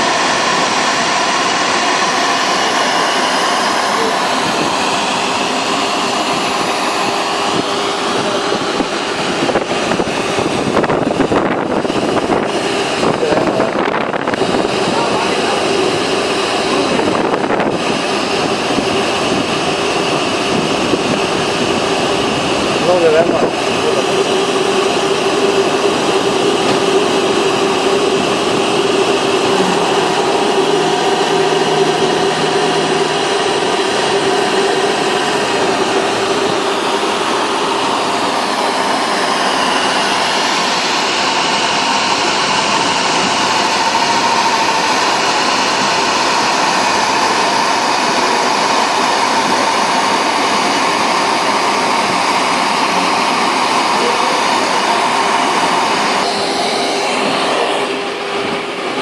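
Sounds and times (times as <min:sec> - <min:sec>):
motor running with rushing hum: 0:00.0 - 0:59.0.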